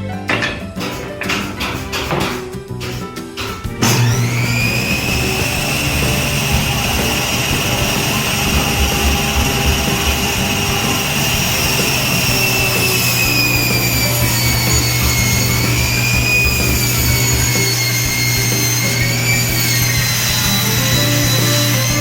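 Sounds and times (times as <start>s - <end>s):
power tool motor whining: 3.4s - 22.0s.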